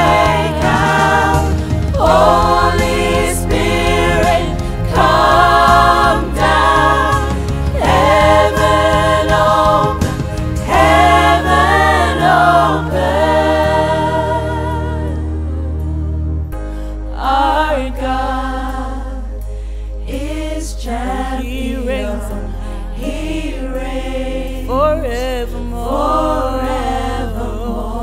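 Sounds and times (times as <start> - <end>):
women's choir singing worship song: 0.0 - 15.7, 17.1 - 19.4, 20.0 - 28.0
backing track with bass line: 0.0 - 28.0.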